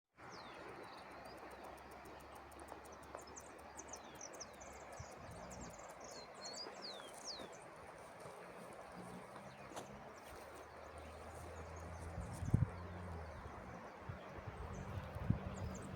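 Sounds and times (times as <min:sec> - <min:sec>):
steady outdoor hiss: 0:00.2 - 0:15.9
small birds chirping: 0:00.3 - 0:15.9.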